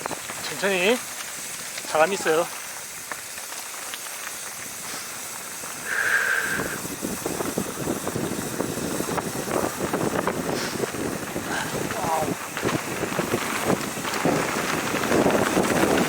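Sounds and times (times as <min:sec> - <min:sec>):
bike rattling: 0:00.0 - 0:16.0
tyres crunching on dirt: 0:00.0 - 0:16.0.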